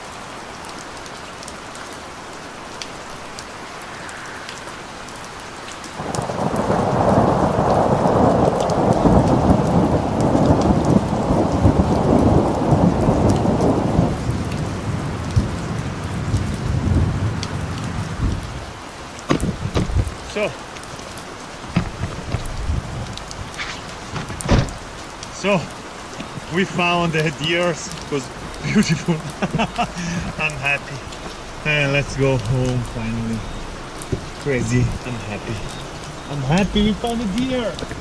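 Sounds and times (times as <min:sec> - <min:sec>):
steady rain falling: 0:00.0 - 0:38.0
thunder rumble: 0:03.4 - 0:38.0.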